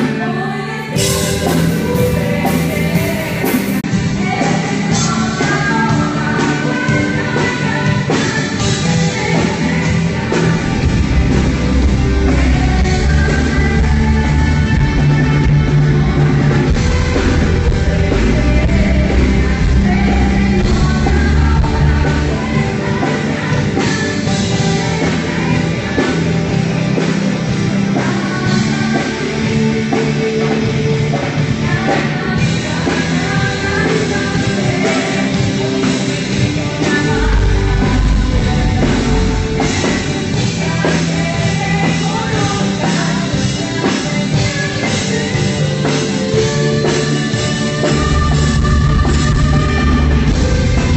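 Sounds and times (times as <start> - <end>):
live rock band playing: 0.0 - 50.9
women singing into microphones: 0.0 - 50.9.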